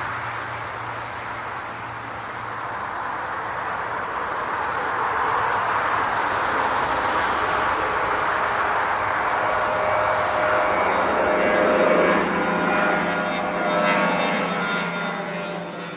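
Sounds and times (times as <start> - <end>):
jet airliner engine rushing: 0.0 - 15.9.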